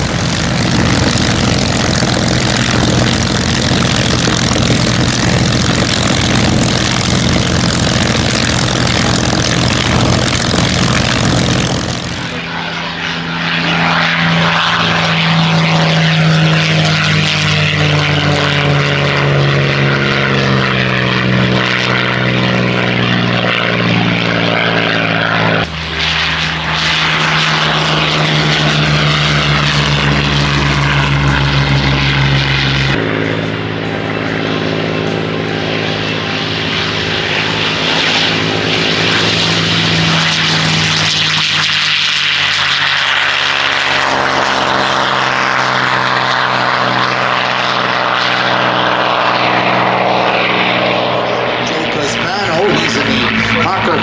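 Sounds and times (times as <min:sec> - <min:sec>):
piston aircraft engines droning: 0:00.0 - 0:54.0.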